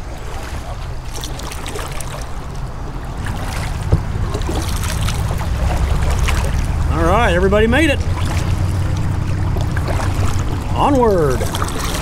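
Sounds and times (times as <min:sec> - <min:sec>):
paddle splashes: 0:00.0 - 0:12.0
steady low rumble: 0:00.0 - 0:12.0
swirling river water: 0:00.0 - 0:12.0.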